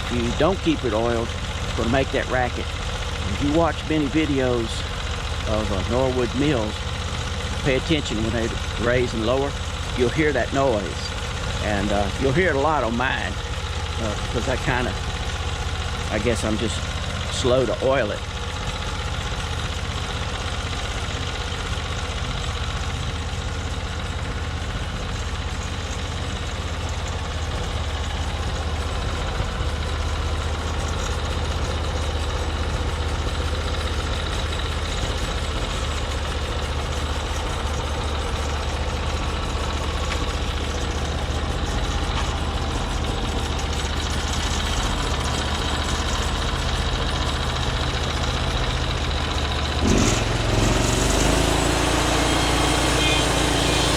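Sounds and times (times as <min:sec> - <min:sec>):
gasoline engine running: 0:00.0 - 0:53.9.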